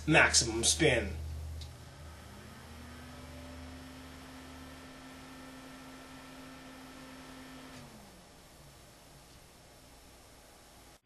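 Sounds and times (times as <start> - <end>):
cooling fan running: 0.0 - 11.0.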